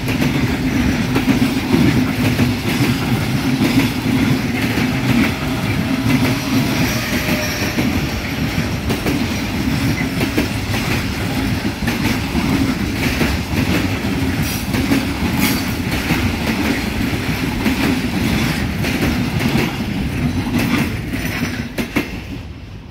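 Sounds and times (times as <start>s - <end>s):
train wheels clacking over rail joints: 0.0s - 22.5s.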